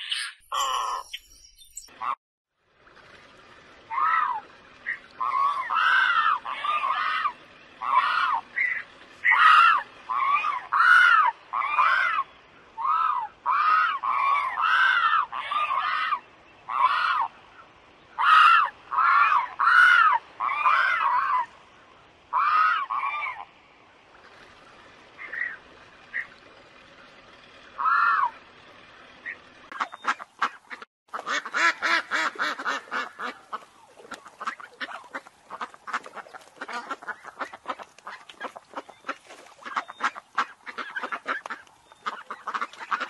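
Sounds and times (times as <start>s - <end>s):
bird calling: 0.0s - 2.2s, 3.9s - 21.5s, 25.1s - 26.4s, 29.2s - 43.0s.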